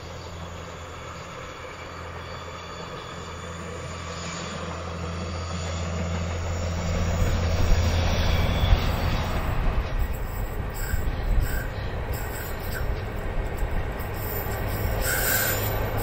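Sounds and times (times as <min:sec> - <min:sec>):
diesel engine droning: 0:00.0 - 0:16.0
freight train wheels rumbling: 0:00.0 - 0:16.0
train wheel squeals: 0:00.0 - 0:16.0.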